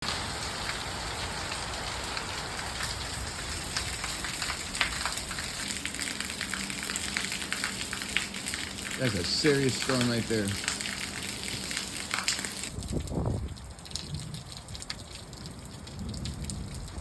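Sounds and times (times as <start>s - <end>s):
heavy rain falling: 0.0s - 17.0s
drips on hard surfaces: 1.5s - 17.0s.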